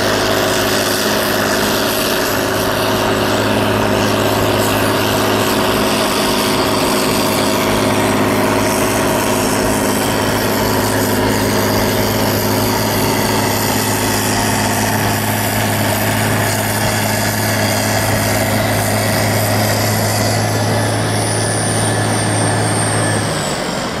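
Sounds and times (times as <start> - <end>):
snowblower roar: 0.0 - 24.0.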